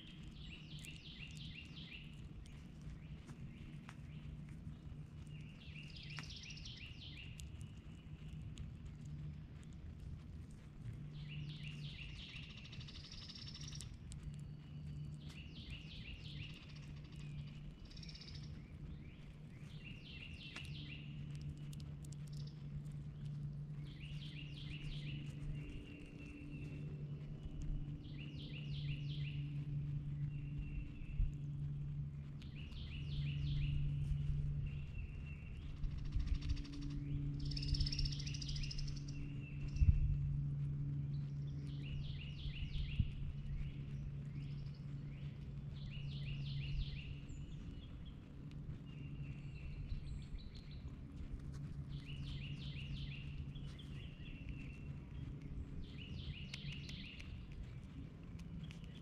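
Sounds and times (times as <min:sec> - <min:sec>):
songbirds trilling: 0:00.0 - 0:59.0
steady low hum: 0:00.0 - 0:59.0.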